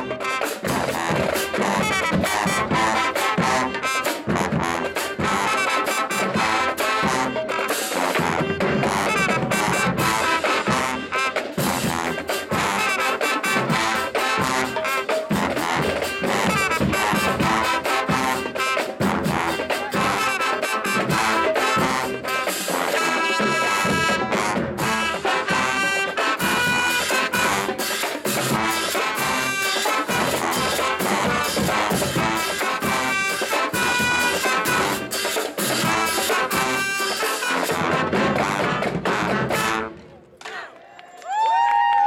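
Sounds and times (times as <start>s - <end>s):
held brass chord: 0.0s - 40.0s
marching drums: 0.0s - 40.0s
trumpets and trombones: 0.0s - 40.2s.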